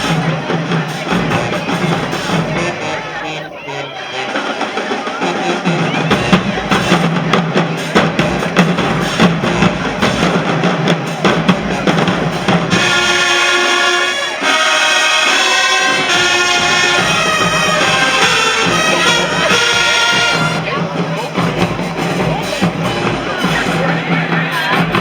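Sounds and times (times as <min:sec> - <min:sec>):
brass chords: 0:00.0 - 0:25.0
drumline fast cadence: 0:00.0 - 0:25.0.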